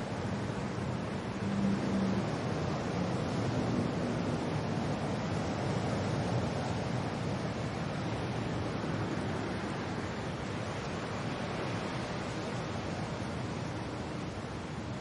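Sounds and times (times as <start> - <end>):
wind and rain hiss: 0.0 - 15.0.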